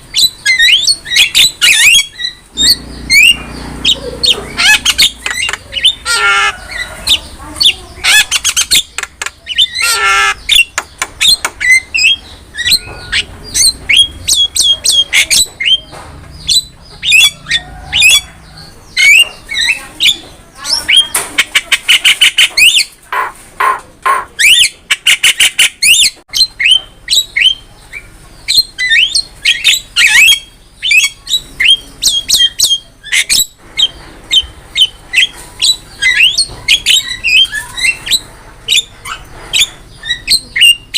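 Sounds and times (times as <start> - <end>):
myna bird singing: 0.0 - 40.9.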